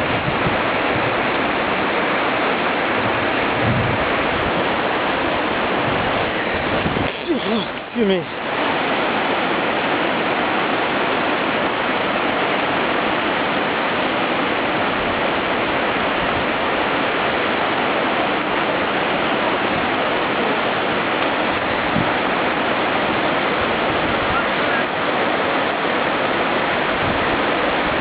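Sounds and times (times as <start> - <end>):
river water rushing over boulders: 0.0 - 28.0.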